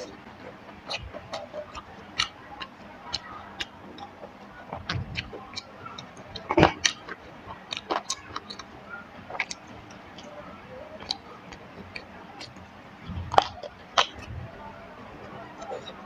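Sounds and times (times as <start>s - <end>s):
lip-smacking clicks: 0.0s - 16.0s
wet chewing: 0.0s - 16.0s.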